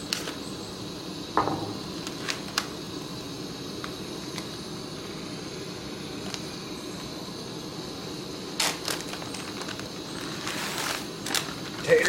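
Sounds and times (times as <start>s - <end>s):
stove burner hissing: 0.0s - 12.0s.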